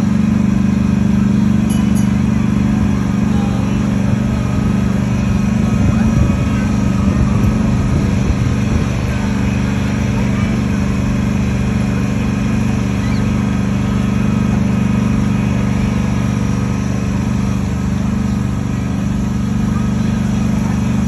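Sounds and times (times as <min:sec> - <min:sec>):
road train engine hum: 0:00.0 - 0:21.0.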